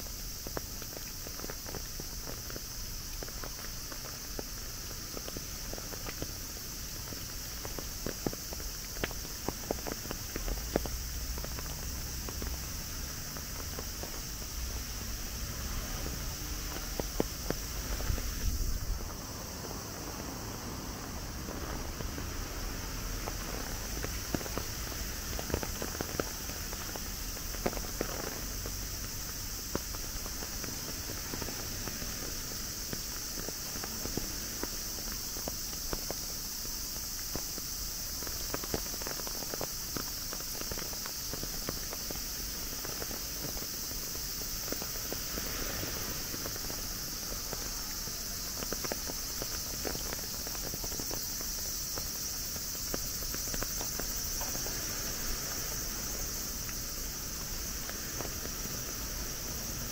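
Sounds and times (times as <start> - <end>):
insects chirring: 0.0 - 59.9
footsteps on wet path: 0.1 - 59.9.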